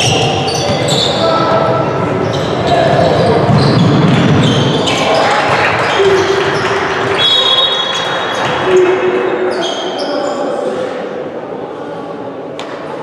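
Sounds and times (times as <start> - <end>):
players' voices: 0.0 - 13.0.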